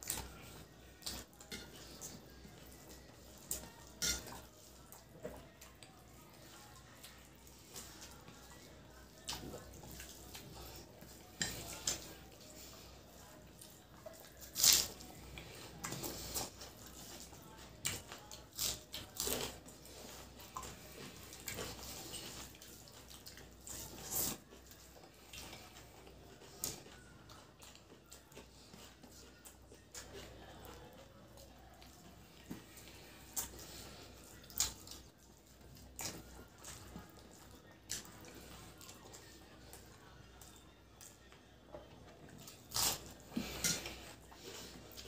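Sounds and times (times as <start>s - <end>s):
wet mixing and chewing: 0.0s - 45.0s.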